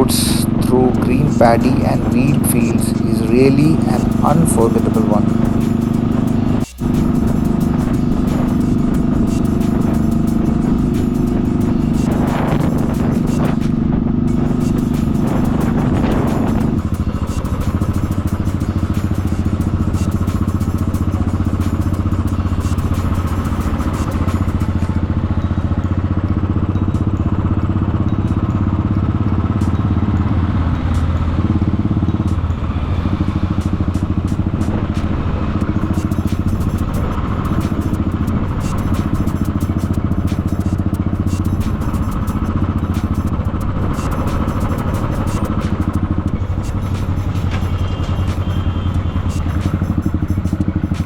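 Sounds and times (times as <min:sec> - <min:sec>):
motorcycle engine running: 0:00.0 - 0:51.0
road noise: 0:00.0 - 0:51.0.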